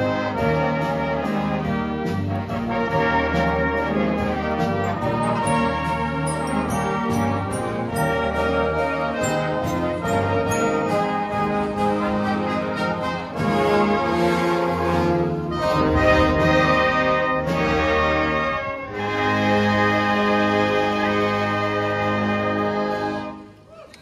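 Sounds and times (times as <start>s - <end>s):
brass band playing chords: 0.0s - 23.7s.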